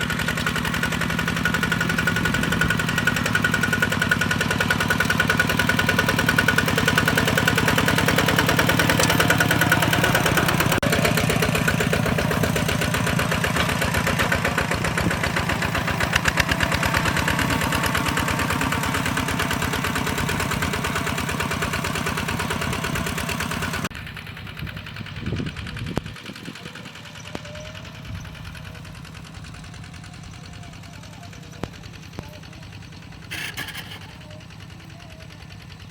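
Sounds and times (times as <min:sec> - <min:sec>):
hand tractor engine knocking: 0:00.0 - 0:35.9.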